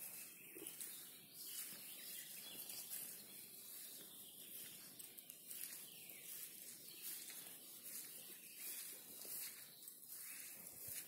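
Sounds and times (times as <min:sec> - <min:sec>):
faint birds singing: 0:00.0 - 0:11.0
grass swishing underfoot: 0:00.0 - 0:11.0.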